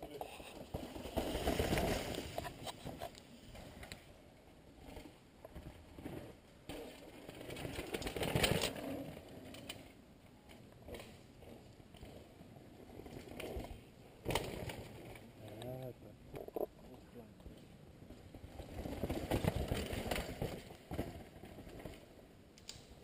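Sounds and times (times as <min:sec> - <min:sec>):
mountain bikes passing on dirt: 0:00.4 - 0:15.4, 0:17.4 - 0:22.5.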